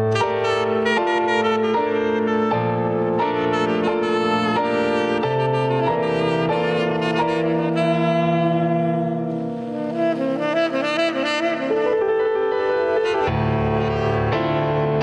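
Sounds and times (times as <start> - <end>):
tenor saxophone: 0.0 - 14.7
electric piano chords: 0.0 - 15.0.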